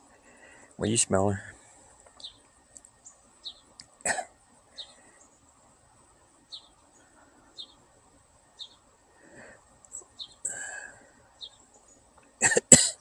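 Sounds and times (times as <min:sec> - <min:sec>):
bird chirping: 0:01.2 - 0:12.4.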